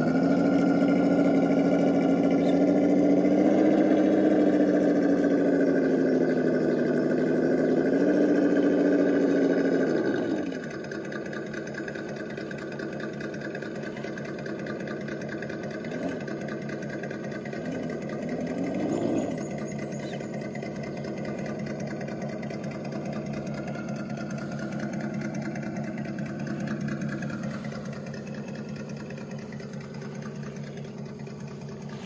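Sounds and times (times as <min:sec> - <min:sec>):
electric motor whining: 0:00.0 - 0:10.9, 0:17.2 - 0:32.0.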